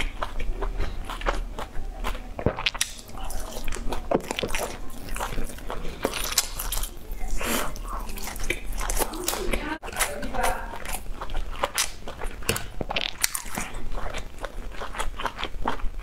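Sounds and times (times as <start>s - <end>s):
biting and chewing sausages: 0.0s - 16.0s.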